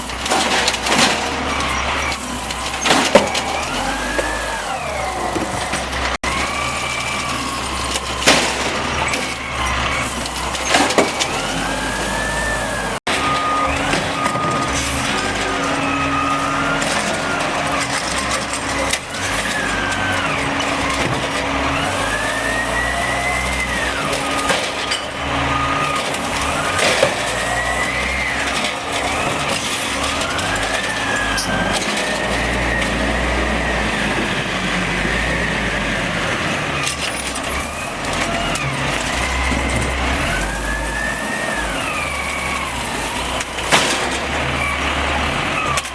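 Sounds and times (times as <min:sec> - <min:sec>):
cart banging: 0:00.0 - 0:45.9
garbage truck engine and hydraulics: 0:00.0 - 0:45.9.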